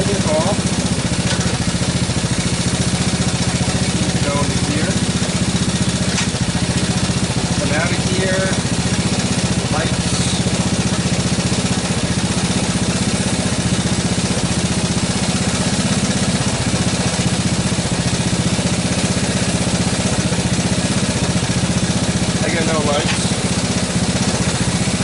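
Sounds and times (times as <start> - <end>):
single-cylinder engine idling: 0.0 - 25.0.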